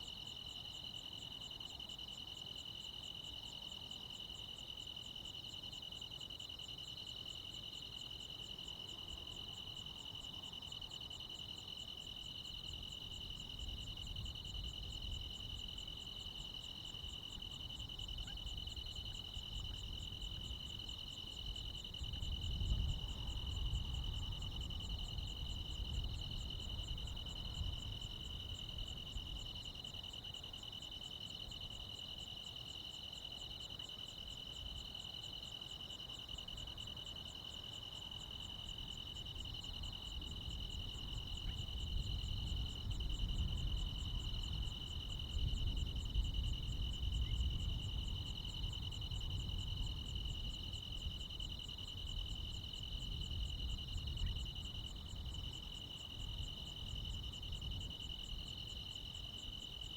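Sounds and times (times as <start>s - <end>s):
crickets and insects chirring: 0.0s - 59.9s.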